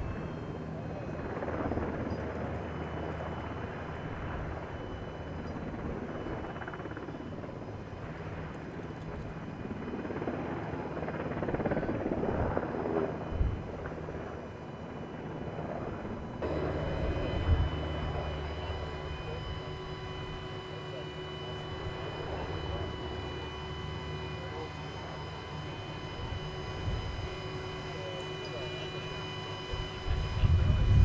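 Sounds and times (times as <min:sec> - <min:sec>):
low mechanical drone: 0:00.0 - 0:31.0.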